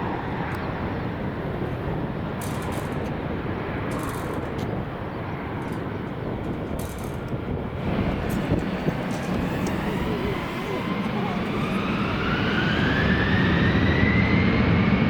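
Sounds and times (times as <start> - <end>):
aircraft engine rushing with thin whine: 0.0 - 15.0
wind rumble on microphone: 0.0 - 15.0.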